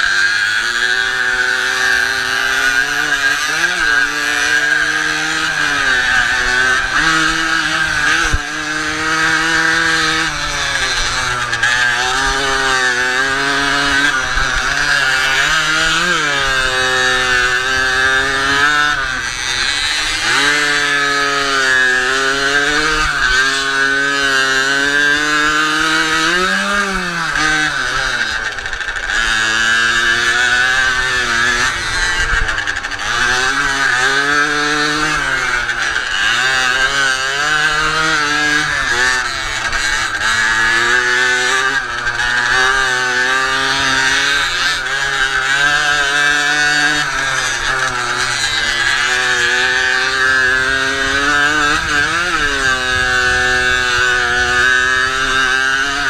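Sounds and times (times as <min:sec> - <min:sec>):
moped engine revving: 0:00.0 - 0:56.0.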